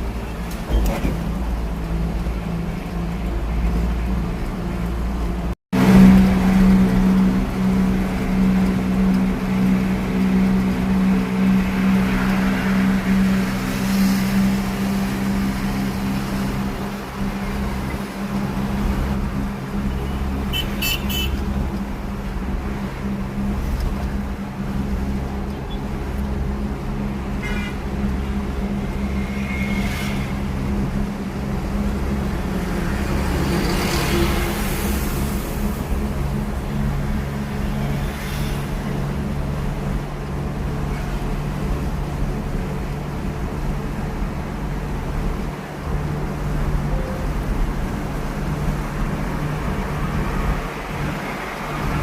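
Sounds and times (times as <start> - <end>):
vehicle engine humming: 0.0 - 52.0.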